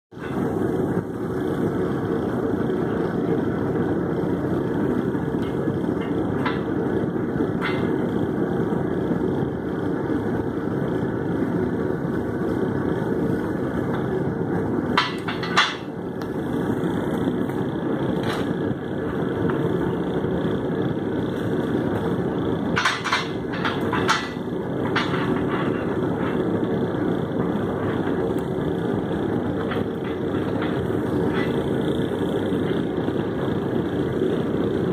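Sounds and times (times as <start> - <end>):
steady rushing noise: 0.1 - 34.9.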